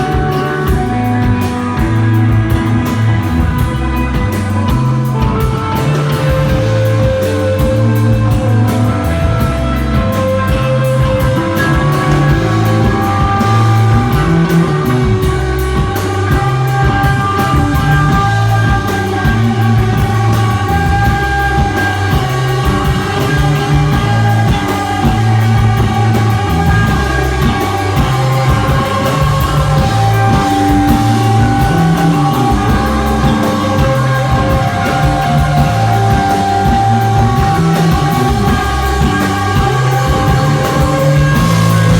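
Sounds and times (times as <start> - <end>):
bass guitar: 0.0 - 41.9
droning electric guitar: 0.0 - 41.9
drum kit: 0.0 - 41.9.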